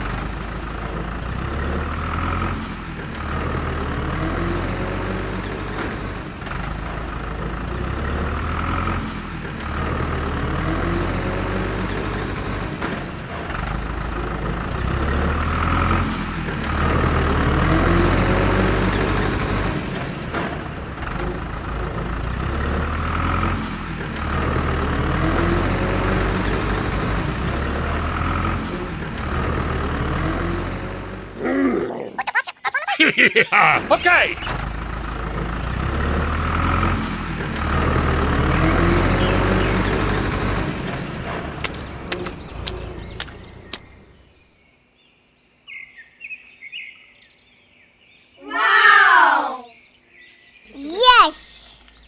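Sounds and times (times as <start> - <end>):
tractor engine running: 0.0 - 31.4, 32.3 - 44.3.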